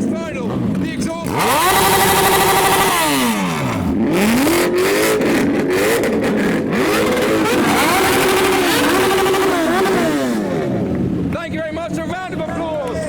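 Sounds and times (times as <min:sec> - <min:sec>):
car engine revving: 0:00.0 - 0:13.0
motorbikes revving: 0:00.0 - 0:13.0.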